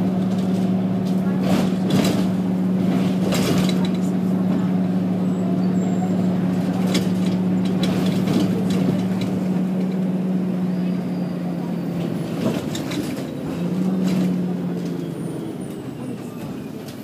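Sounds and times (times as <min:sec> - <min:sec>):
bus engine hum: 0:00.0 - 0:17.0.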